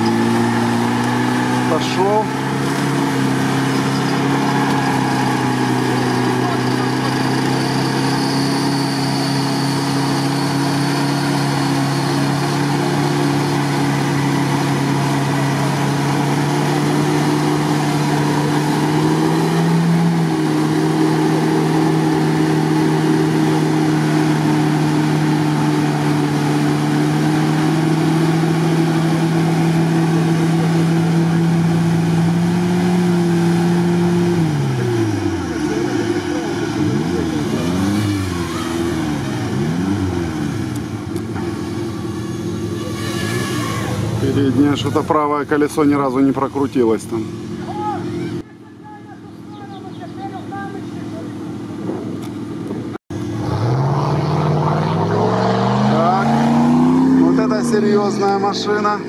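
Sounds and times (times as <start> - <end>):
engine revving high: 0.0 - 48.4, 53.1 - 59.0.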